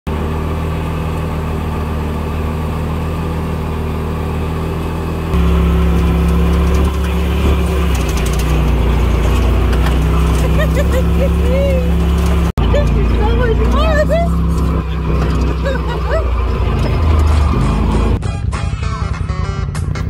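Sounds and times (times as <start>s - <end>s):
off-road vehicle engine droning: 0.1s - 20.0s.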